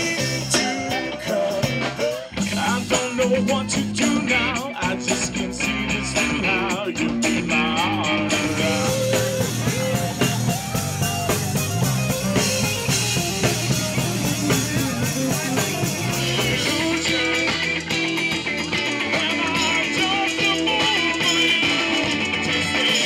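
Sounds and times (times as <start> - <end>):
drum kit beat: 0.0 - 23.0
electric guitar: 0.0 - 23.0.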